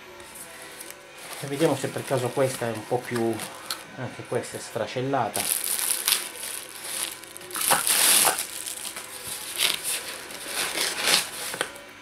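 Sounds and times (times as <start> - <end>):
polystyrene and cardboard scraping: 0.2 - 3.8, 5.3 - 11.8.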